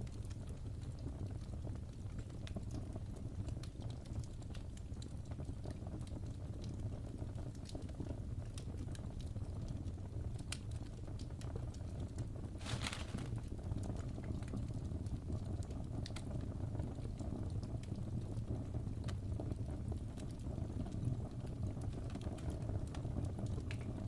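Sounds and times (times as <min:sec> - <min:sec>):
low rumble of flames: 0:00.0 - 0:24.0
burning wood crackling and popping: 0:03.4 - 0:24.0.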